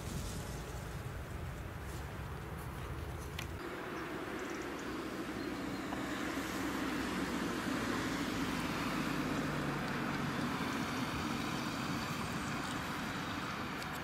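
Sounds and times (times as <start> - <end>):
diesel engines humming: 0.0 - 14.0
harvester machinery noise: 0.0 - 14.0.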